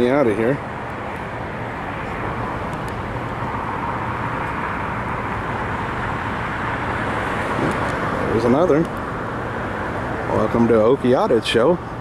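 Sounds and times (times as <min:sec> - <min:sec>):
traffic rushing: 0:00.0 - 0:12.0.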